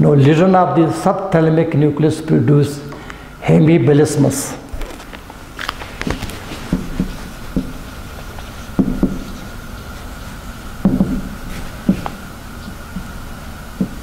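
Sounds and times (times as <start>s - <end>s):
faint high hum: 0.0s - 14.0s.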